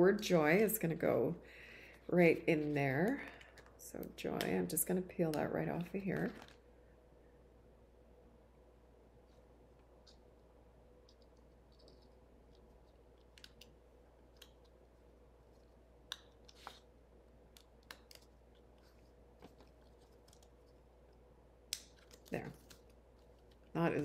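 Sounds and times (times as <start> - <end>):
room hum: 0.0 - 24.0.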